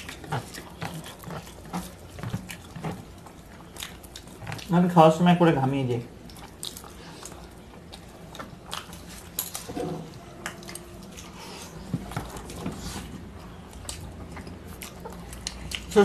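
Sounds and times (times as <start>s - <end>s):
person chewing: 0.0s - 4.7s, 6.2s - 16.0s.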